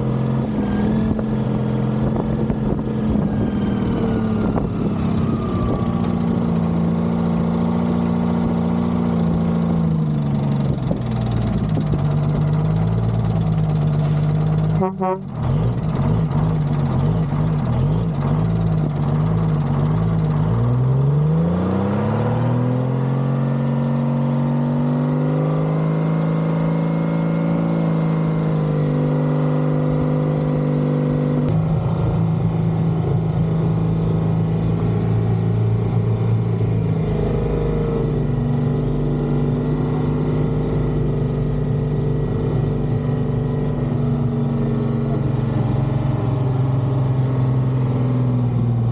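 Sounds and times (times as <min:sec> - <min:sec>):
diesel engine idling and revving: 0:00.0 - 0:48.9.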